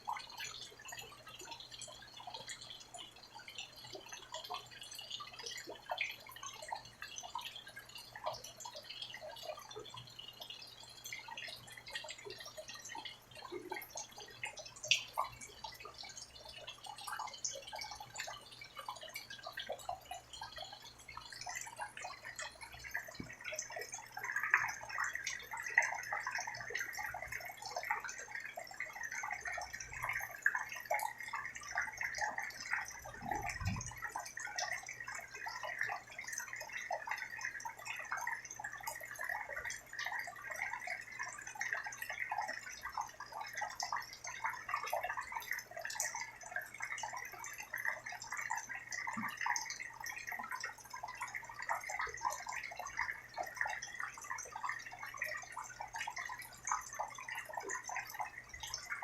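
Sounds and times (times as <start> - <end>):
rain pattering and dripping: 0.0 - 59.0.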